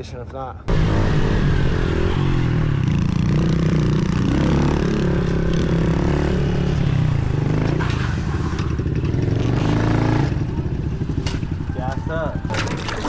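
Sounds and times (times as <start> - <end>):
motorbike engine revving: 0.7 - 13.0.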